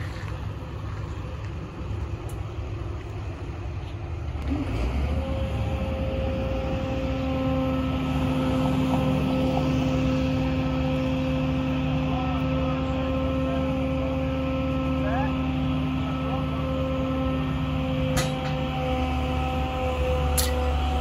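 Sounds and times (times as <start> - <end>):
pickup truck engine running: 0.0 - 21.0
steady whine: 0.0 - 21.0.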